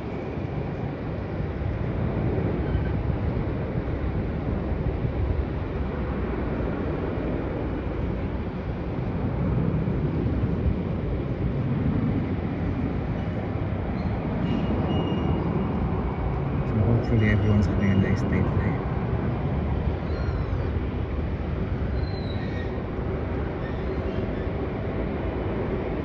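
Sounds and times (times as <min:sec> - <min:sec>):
distant jet engines rumbling: 0:00.0 - 0:26.0.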